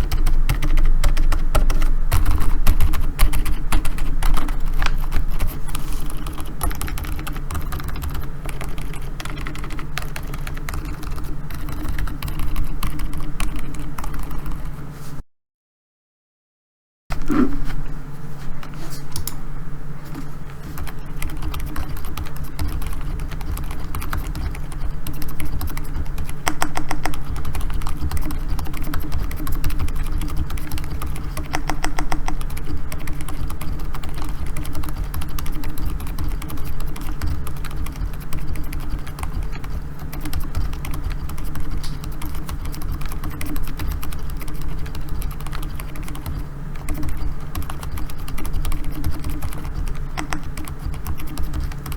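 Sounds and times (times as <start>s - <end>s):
soft keyboard typing: 0.0s - 14.8s, 20.5s - 51.9s
low steady hum: 0.0s - 15.2s, 17.1s - 51.9s.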